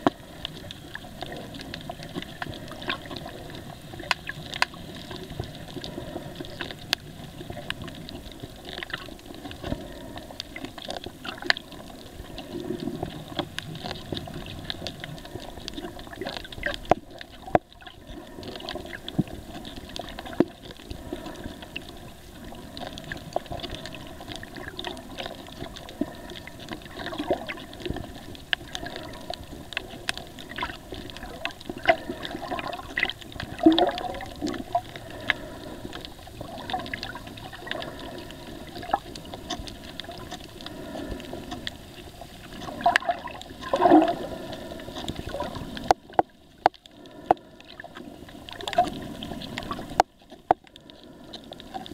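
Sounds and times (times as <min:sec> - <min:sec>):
muffled underwater hiss: 0:00.0 - 0:51.9
reef clicks and crackles: 0:00.0 - 0:51.9
surging water: 0:00.0 - 0:51.9.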